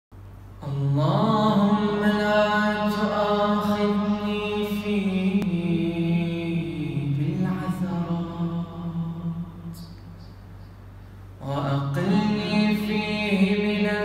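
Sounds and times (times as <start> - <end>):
faint low hum: 0.2 - 14.0
man chanting: 0.6 - 10.2, 11.4 - 14.0.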